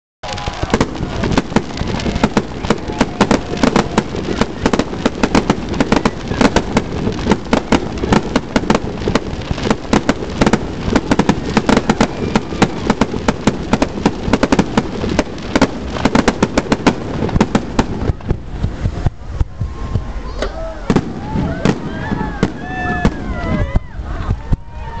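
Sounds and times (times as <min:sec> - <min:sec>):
fireworks bangs and crackles: 0:00.2 - 0:25.0.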